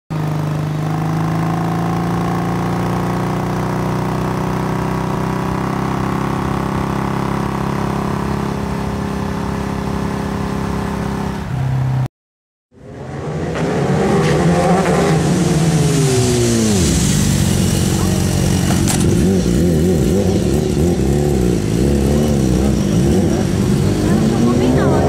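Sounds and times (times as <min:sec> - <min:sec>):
motorcycle engine running: 0:00.1 - 0:11.5, 0:15.4 - 0:25.0.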